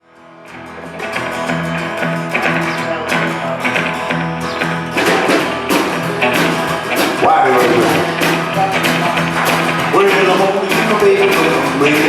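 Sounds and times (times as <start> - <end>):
guitar picking repeated notes: 0.0 - 12.0
rockabilly band playing: 0.3 - 12.0.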